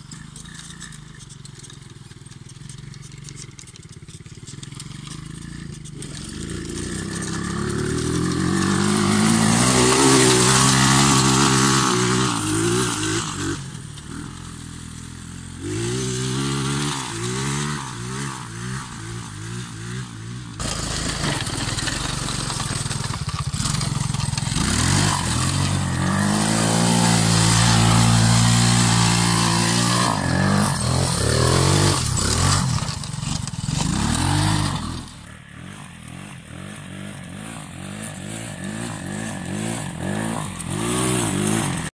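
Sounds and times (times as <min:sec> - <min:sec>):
quad bike engine revving: 0:00.0 - 0:41.9.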